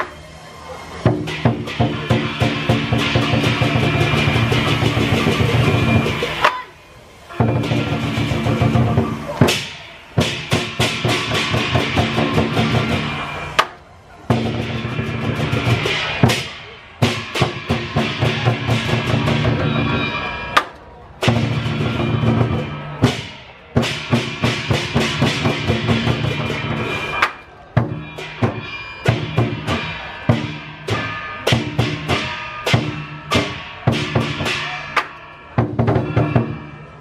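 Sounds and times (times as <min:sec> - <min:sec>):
big drum beating: 0:00.0 - 0:37.0
cymbals crashing: 0:00.0 - 0:37.0.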